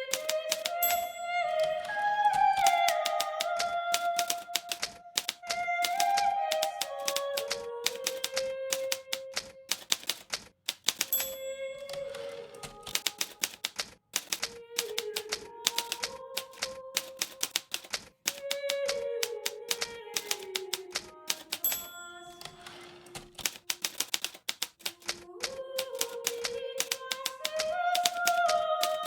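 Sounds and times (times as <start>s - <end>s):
typewriter key strikes: 0.0s - 1.2s, 2.6s - 25.2s, 25.8s - 29.0s.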